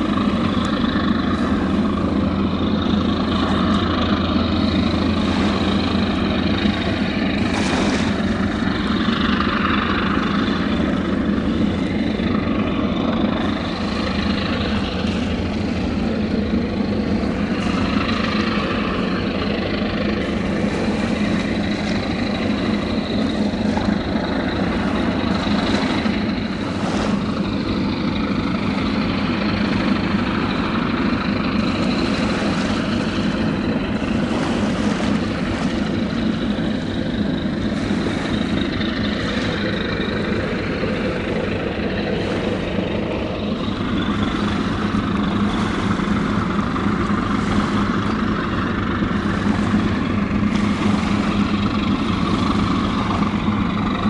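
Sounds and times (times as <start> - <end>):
large engine droning: 0.0 - 54.0.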